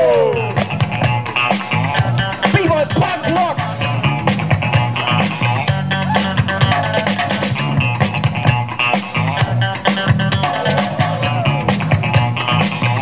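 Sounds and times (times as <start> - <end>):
music with drum beat and bass line: 0.0 - 13.0.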